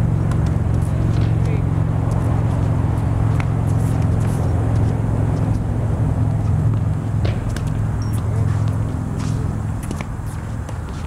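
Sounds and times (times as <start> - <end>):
low droning machine hum: 0.0 - 11.0
tennis racket hitting ball: 0.0 - 11.0.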